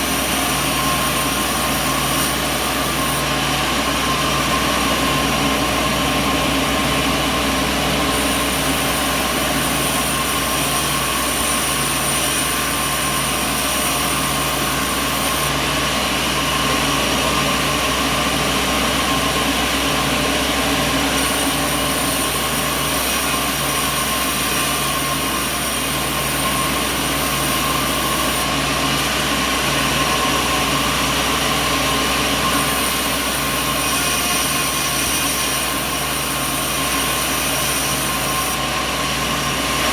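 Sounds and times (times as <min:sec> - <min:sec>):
high machine whine: 0:00.0 - 0:39.9
sawmill machinery humming: 0:00.0 - 0:39.9.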